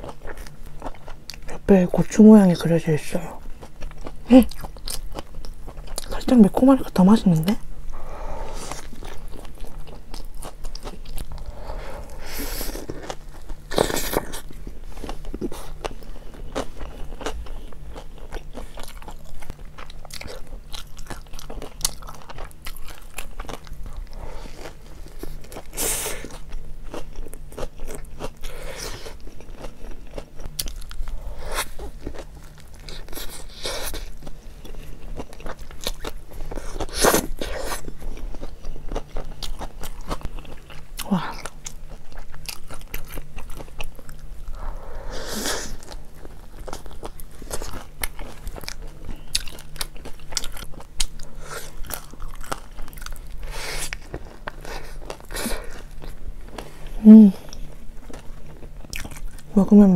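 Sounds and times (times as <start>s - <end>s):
person chewing food: 0.0s - 1.7s, 3.4s - 6.2s, 7.8s - 59.6s.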